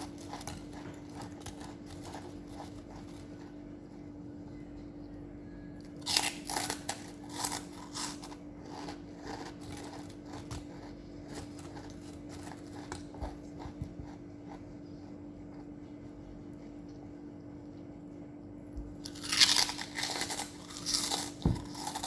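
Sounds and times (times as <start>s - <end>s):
person chewing crunchy food: 0.0s - 4.2s, 5.8s - 17.8s, 18.7s - 22.0s.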